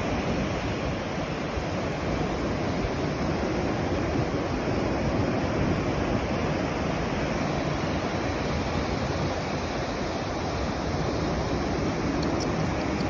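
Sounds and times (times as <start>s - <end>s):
surf washing onto a beach: 0.0s - 13.0s
wind buffeting the microphone: 0.0s - 13.0s.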